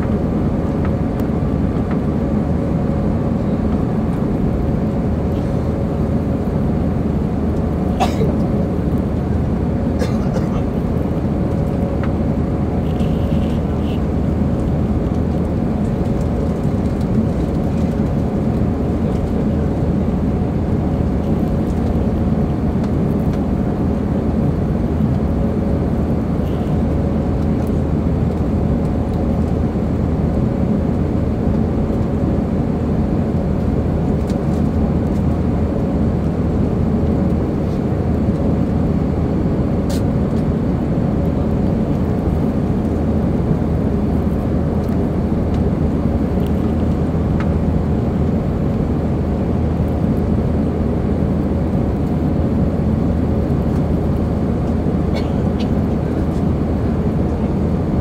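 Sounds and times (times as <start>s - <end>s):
faint steady hum: 0.0s - 58.0s
jet engines in cabin: 0.0s - 58.0s.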